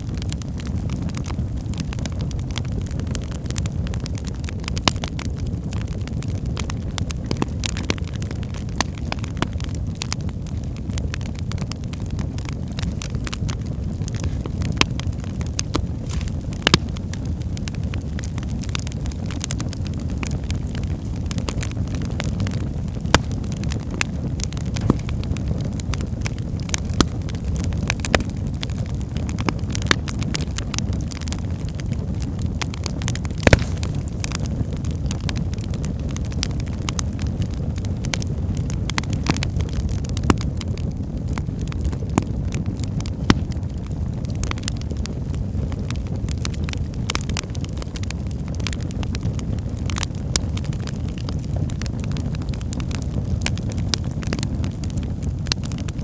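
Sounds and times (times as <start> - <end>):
fire flames rumbling: 0.0 - 56.0
logs crackling and popping: 0.0 - 56.0.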